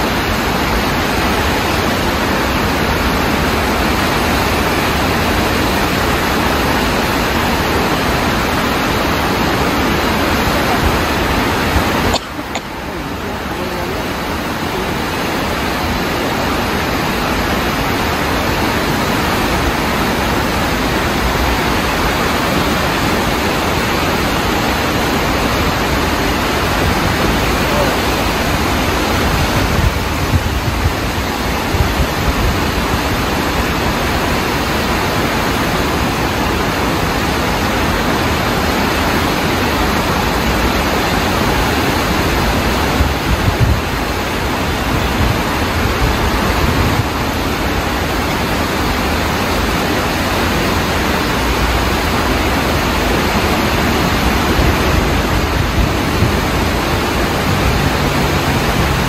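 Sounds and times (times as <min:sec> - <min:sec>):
floodwater rushing in stream: 0:00.0 - 0:59.0.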